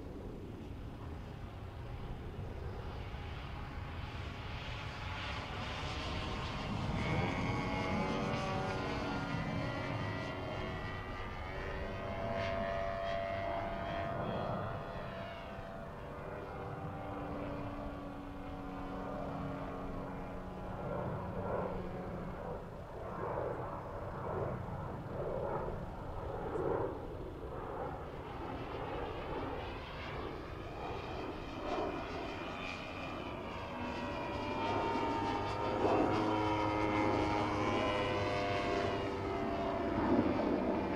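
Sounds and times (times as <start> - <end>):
model plane engine: 0.0 - 40.9.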